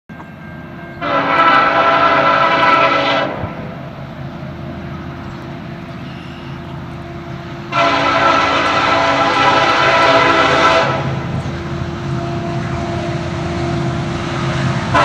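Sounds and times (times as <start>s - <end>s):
diesel locomotive rumble: 0.1s - 15.0s
locomotive air horn chord: 0.2s - 4.0s, 4.8s - 15.0s.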